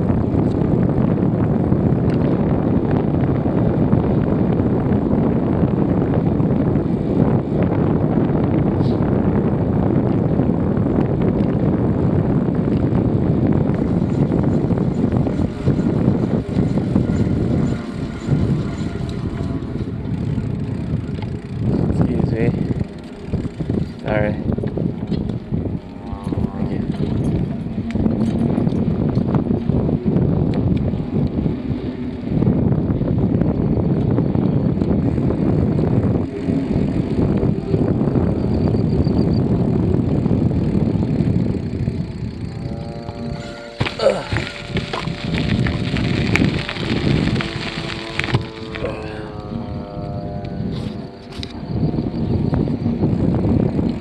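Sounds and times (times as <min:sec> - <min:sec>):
bicycle rumble: 0:00.0 - 0:54.0
wind buffeting microphone: 0:00.0 - 0:54.0.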